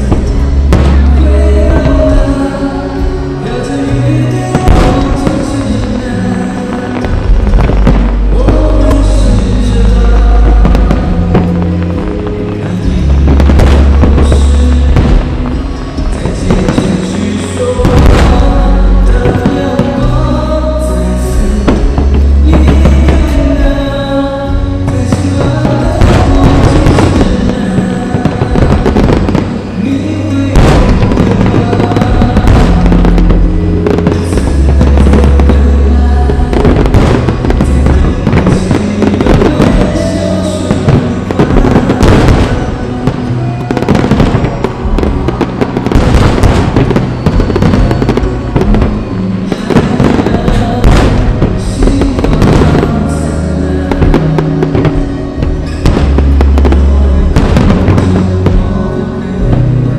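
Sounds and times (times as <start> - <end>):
fireworks bangs and crackles: 0.0 - 59.9
loud music with low bass: 0.0 - 59.9.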